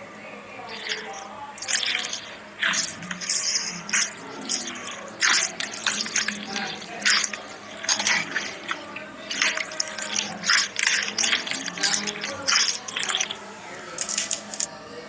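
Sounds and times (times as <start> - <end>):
slime squishing: 0.7 - 14.7.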